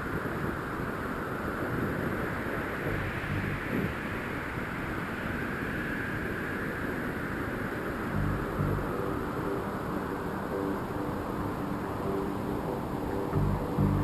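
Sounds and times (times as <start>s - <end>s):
low wind buffets: 0.0s - 14.0s
wind rushing over microphone: 0.0s - 14.0s.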